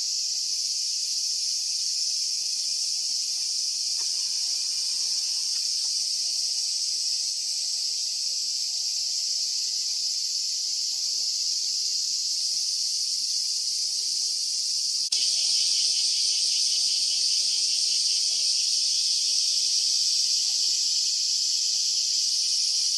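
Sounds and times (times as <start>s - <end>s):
cicadas buzzing: 0.0s - 22.9s.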